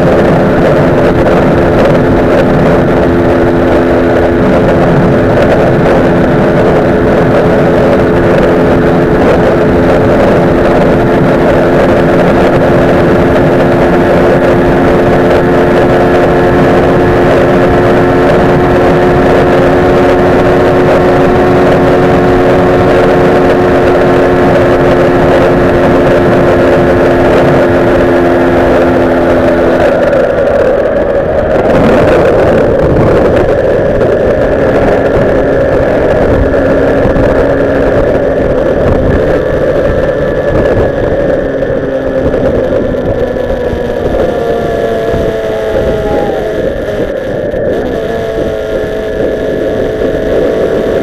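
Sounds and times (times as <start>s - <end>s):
motorcycle engine high-revving drone: 0.0s - 51.0s
wind rushing over microphone: 0.0s - 51.0s.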